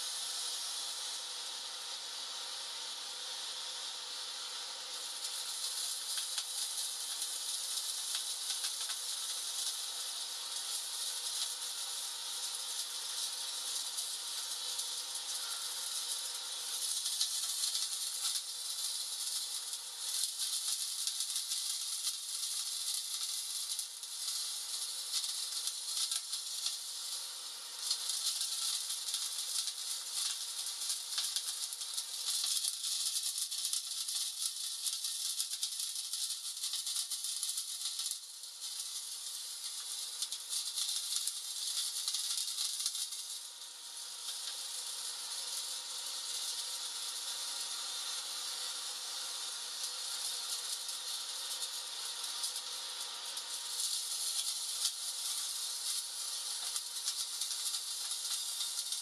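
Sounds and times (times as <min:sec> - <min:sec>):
firework hissing and crackling: 0:00.0 - 0:59.0.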